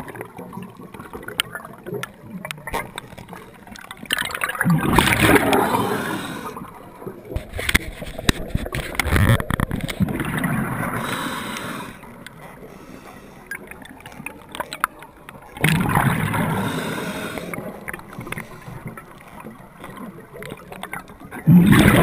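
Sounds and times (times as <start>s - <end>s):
exhaled bubbles gurgling underwater: 0.0s - 22.0s.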